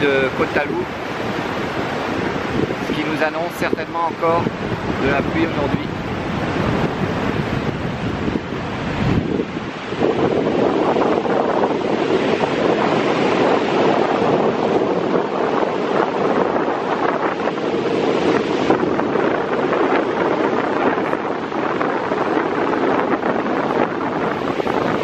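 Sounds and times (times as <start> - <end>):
sea surf breaking: 0.0 - 25.0
wind buffeting microphone: 0.0 - 25.0.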